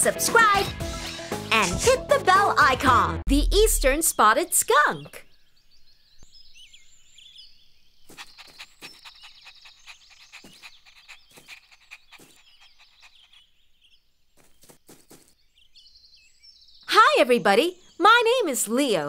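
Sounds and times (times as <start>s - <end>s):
birds chirping: 3.4s - 19.0s.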